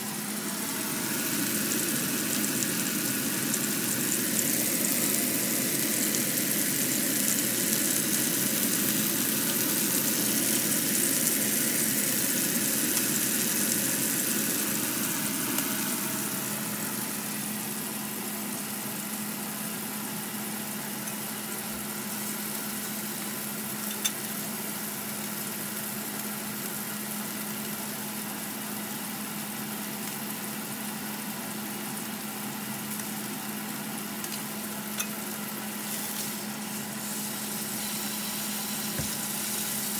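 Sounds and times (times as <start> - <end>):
steak sizzling in frying pan: 0.1 - 18.0, 20.4 - 27.8, 32.9 - 39.9.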